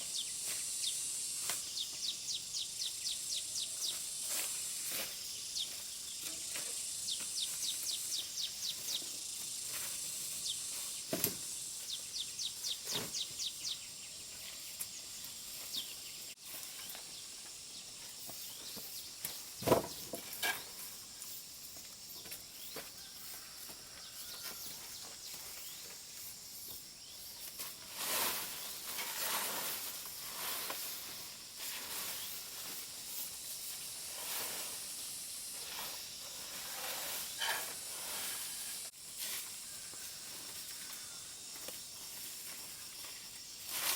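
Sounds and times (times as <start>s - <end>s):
high insect hiss: 0.0s - 43.9s
rustling: 3.8s - 11.9s, 14.3s - 43.9s.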